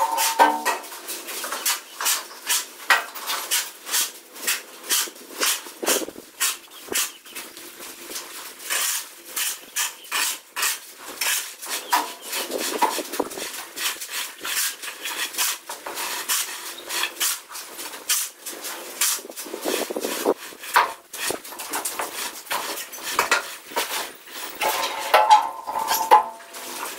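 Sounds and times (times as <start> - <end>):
trowel scraping wet cement: 0.0 - 26.9.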